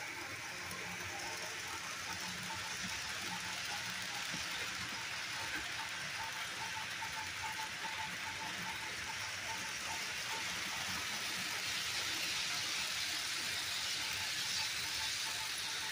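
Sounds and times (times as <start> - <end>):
model trains rolling on track: 0.0 - 15.9.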